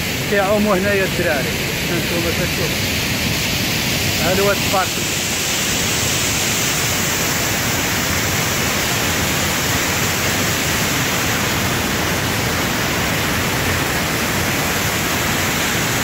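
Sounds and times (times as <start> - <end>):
water rushing into canal: 0.0 - 16.0.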